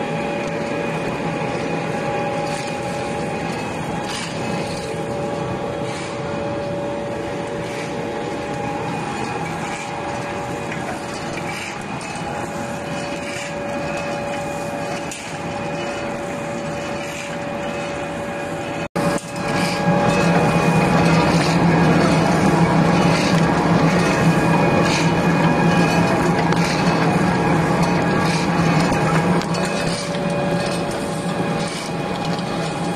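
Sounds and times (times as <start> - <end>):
machine whining tones: 0.0 - 32.9.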